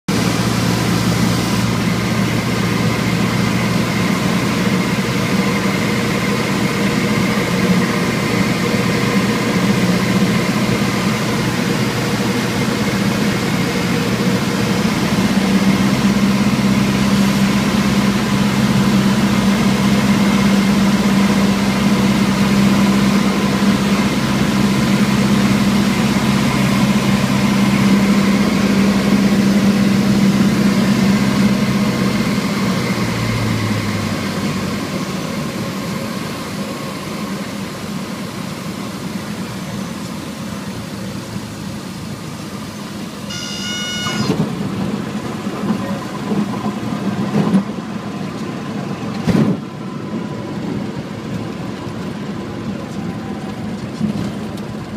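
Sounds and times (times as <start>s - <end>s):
propeller aircraft engine drone: 0.0s - 54.9s.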